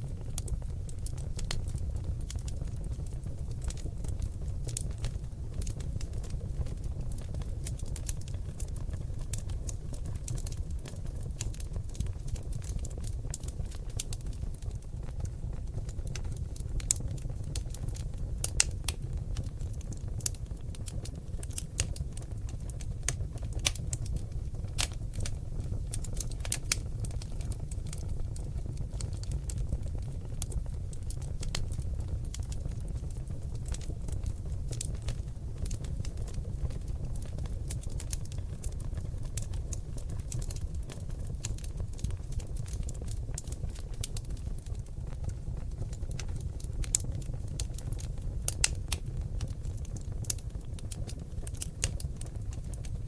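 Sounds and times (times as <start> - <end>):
logs crackling and popping: 0.0 - 53.0
low fire rumble: 0.0 - 53.0.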